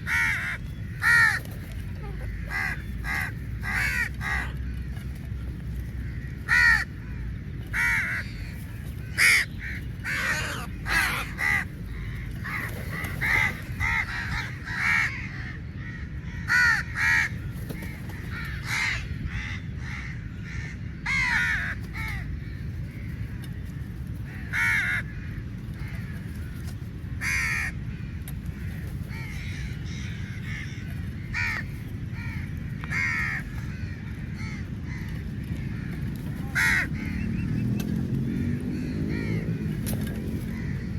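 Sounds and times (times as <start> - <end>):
crows cawing: 0.0 - 37.4, 38.2 - 39.8, 40.4 - 40.9
low background rumble: 0.0 - 40.9.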